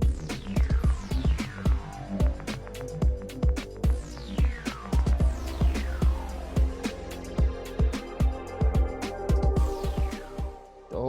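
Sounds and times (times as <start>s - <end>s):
electronic music with kick drum: 0.0s - 11.0s
falling synth sweep: 0.2s - 10.8s.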